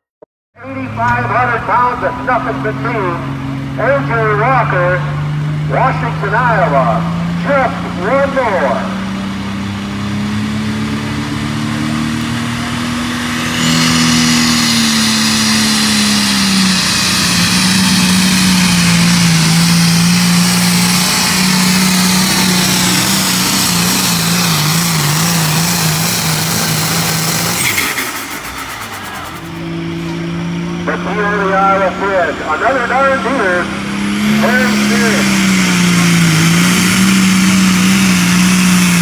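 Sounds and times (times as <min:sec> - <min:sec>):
tractor engine at full throttle: 0:00.6 - 0:39.0.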